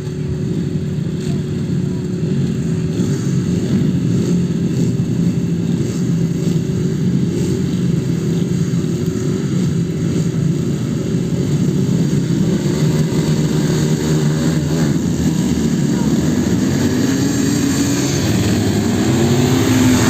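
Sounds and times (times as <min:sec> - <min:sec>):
motorcycle engines running: 0:00.0 - 0:20.0.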